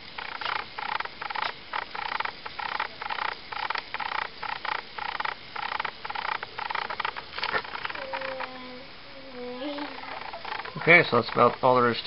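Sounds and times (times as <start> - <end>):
servos buzzing: 0.0 - 11.7.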